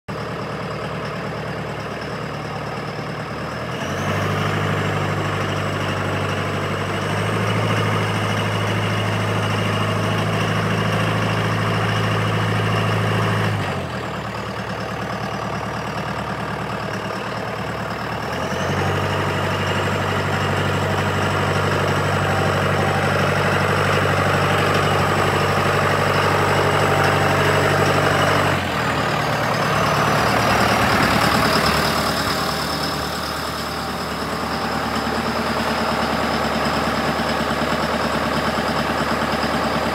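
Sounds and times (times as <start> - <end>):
tractor diesel engine idling and revving: 0.0 - 39.9.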